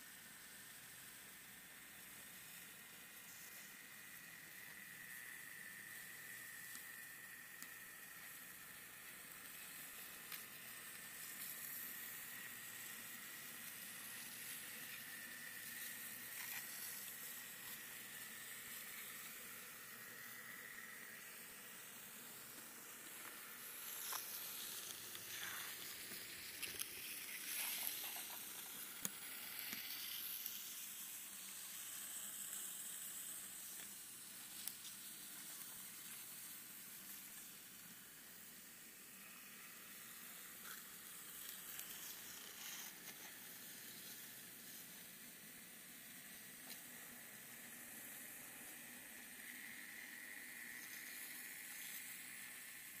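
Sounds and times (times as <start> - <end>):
model train running on track: 0.0 - 53.0
thin high whine: 0.0 - 53.0.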